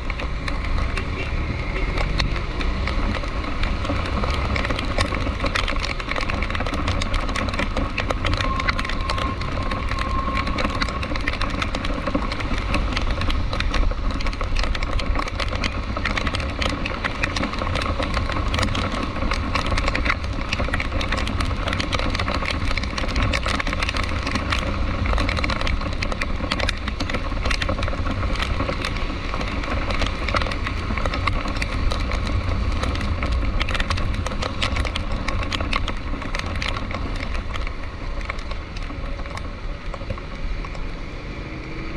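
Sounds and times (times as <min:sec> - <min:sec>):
car driving rumble: 0:00.0 - 0:41.9
rain ticking on a car: 0:00.0 - 0:41.9.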